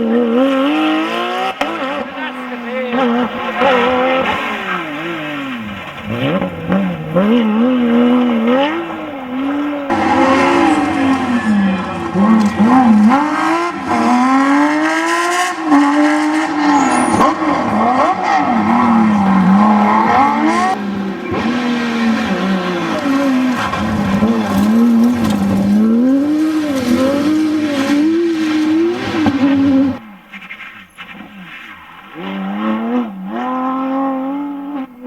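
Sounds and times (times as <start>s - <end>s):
race car engine revving: 0.0s - 35.0s.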